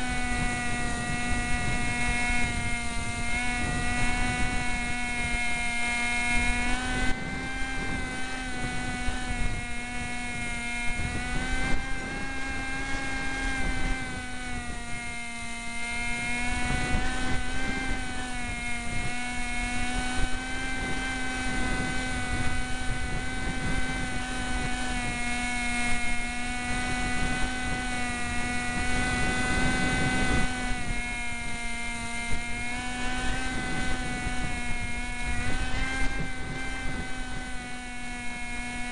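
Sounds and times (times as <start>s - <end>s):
electric motor buzzing whine: 0.0s - 38.9s
wind buffeting microphone: 0.0s - 38.9s.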